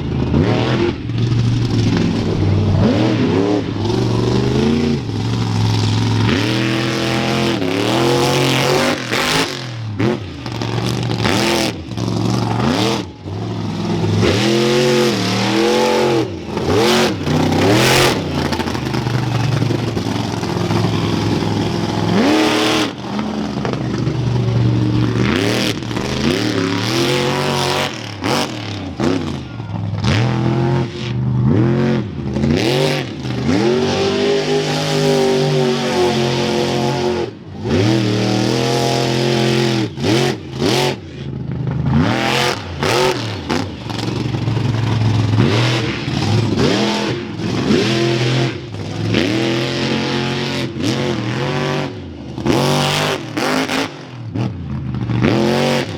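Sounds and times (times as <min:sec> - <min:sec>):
truck engine revving hard: 0:00.0 - 0:55.9.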